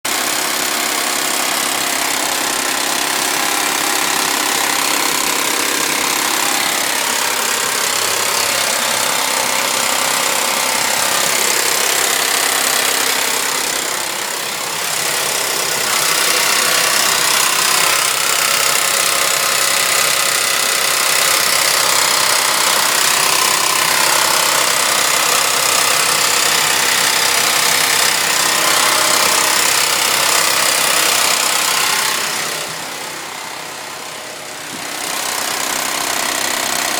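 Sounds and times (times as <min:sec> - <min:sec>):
car engine running with rattling noise: 0:00.1 - 0:36.9.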